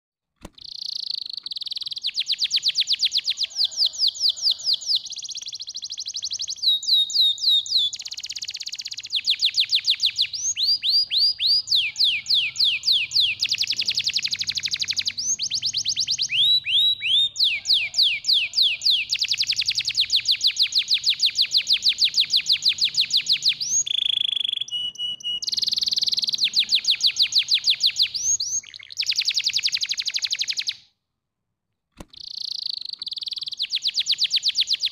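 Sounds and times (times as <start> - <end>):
canary singing trills: 0.6 - 30.8, 32.1 - 34.9.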